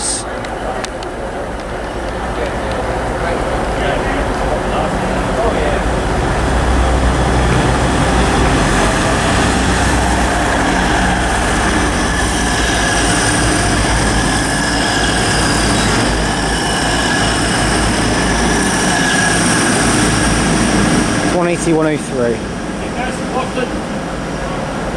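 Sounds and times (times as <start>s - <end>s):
wheels rushing on rail: 0.0s - 24.9s.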